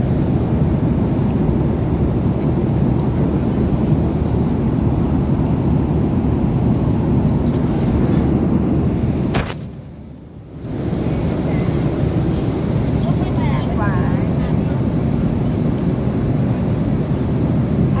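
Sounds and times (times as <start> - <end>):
jet engines rumbling in cabin: 0.0 - 18.0.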